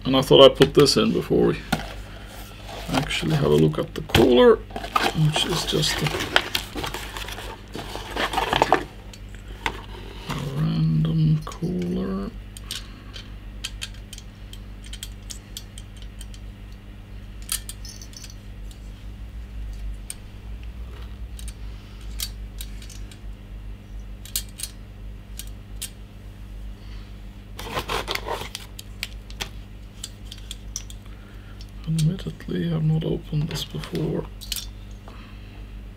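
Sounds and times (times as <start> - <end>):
low hum: 0.0 - 35.9.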